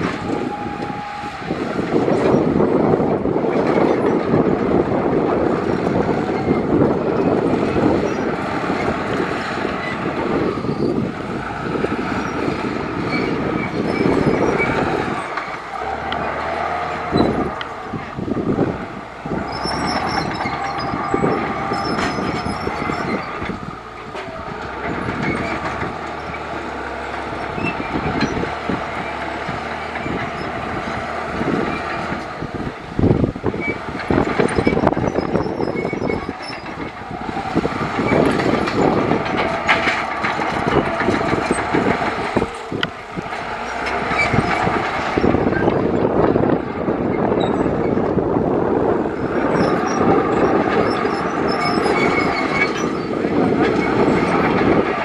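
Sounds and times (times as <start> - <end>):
bulldozer diesel engine running: 0.0 - 55.0
steel tracks clanking and squeaking: 0.0 - 55.0.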